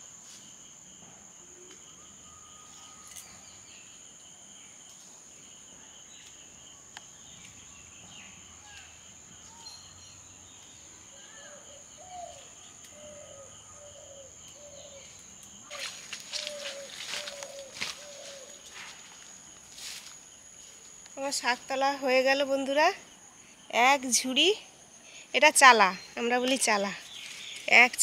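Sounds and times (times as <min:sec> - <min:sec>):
high insect drone: 0:00.0 - 0:28.0
pulsing cricket trill: 0:00.8 - 0:04.8, 0:05.4 - 0:28.0.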